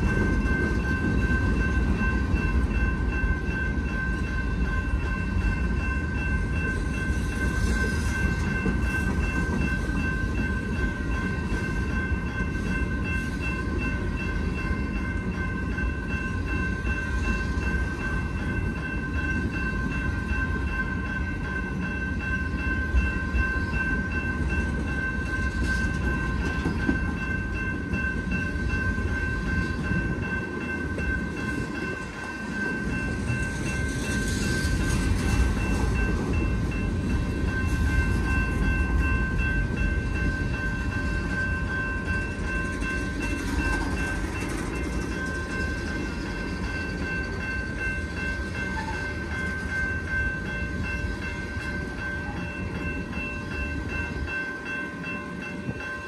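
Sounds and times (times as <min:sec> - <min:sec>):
rumble of train wheels on rail: 0:00.0 - 0:56.0.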